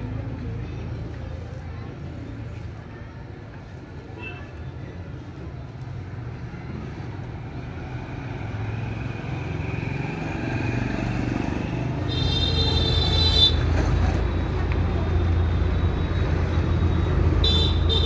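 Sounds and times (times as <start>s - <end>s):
street traffic rumbling: 0.0s - 18.0s.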